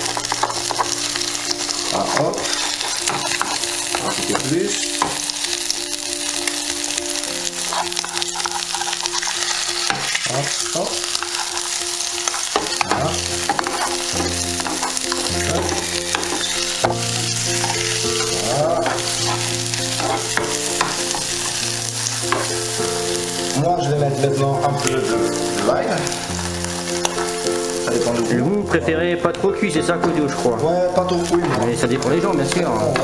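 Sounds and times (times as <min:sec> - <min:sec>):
egg sizzling in frying pan: 0:00.0 - 0:33.0.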